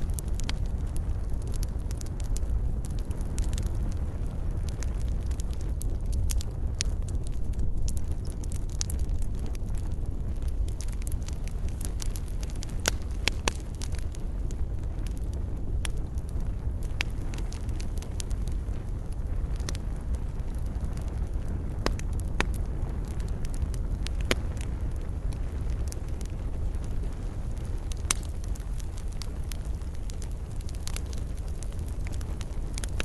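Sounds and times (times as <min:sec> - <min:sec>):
low rumble of flames: 0:00.0 - 0:33.0
wood crackling and popping: 0:00.0 - 0:33.0.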